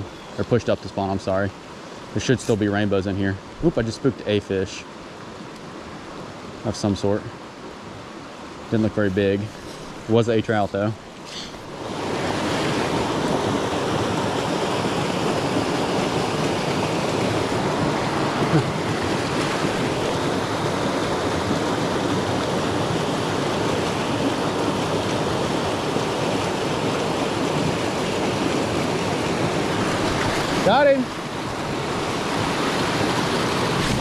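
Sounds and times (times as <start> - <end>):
stream rushing over stones: 0.0 - 34.0.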